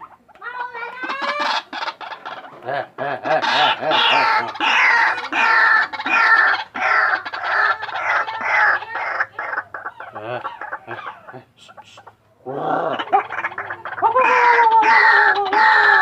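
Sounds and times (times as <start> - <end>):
waterhen calling harshly: 0.4 - 2.6, 3.3 - 11.2, 12.0 - 16.0.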